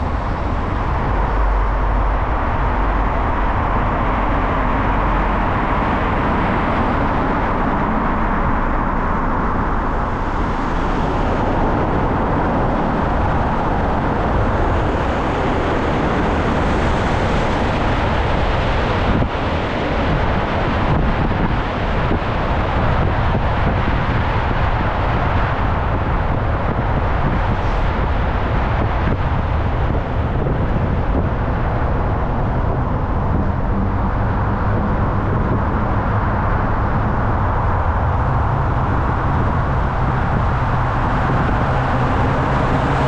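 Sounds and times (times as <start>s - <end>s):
low hum: 0.0s - 21.8s, 25.4s - 43.0s
road noise: 0.0s - 43.0s
wind on microphone: 0.0s - 43.0s.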